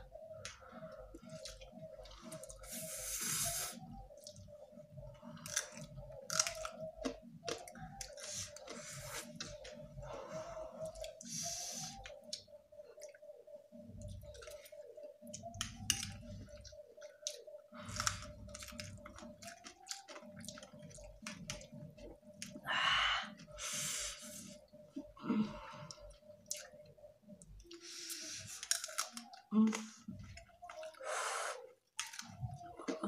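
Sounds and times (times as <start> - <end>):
people chewing: 0.0 - 13.2, 13.8 - 33.0
faint steady hum: 0.0 - 33.0.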